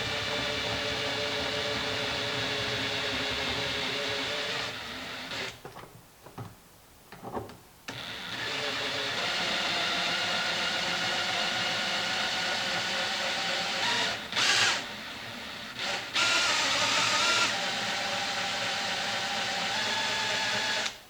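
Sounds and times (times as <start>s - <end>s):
power drill drilling: 0.0s - 5.6s, 7.9s - 21.0s.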